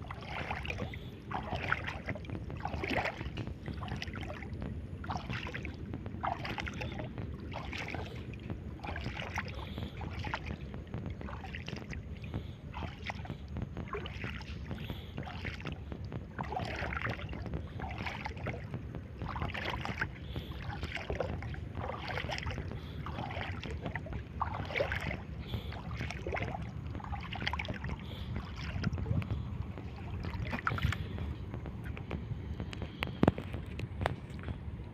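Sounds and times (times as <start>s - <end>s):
steady low rumble: 0.0s - 34.9s
water sloshing with steps: 0.0s - 34.9s.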